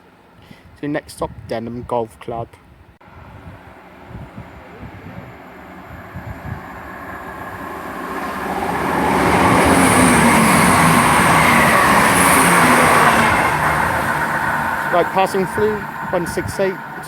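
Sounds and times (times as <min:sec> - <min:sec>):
diesel train passing: 0:03.0 - 0:17.0
train wheel noise: 0:03.2 - 0:17.0.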